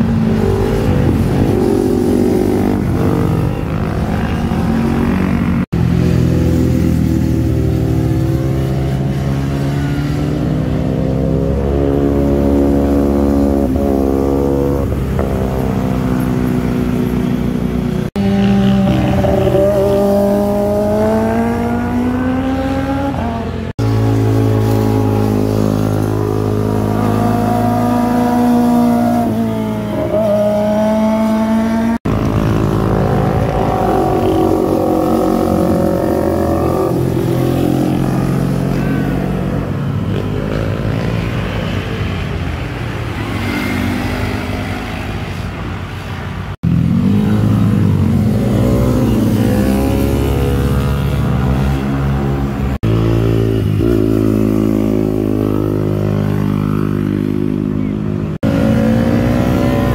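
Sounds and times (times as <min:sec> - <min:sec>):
motorcycles revving past at speed: 0:00.0 - 0:45.5, 0:46.6 - 0:59.9.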